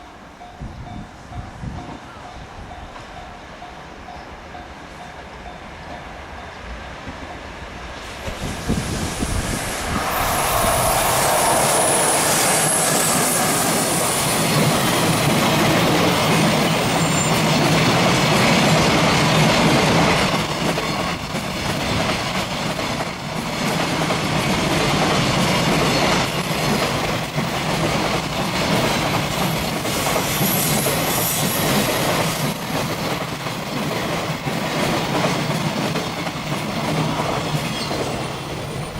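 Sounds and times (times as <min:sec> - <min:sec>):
train passing: 0:00.0 - 0:38.9.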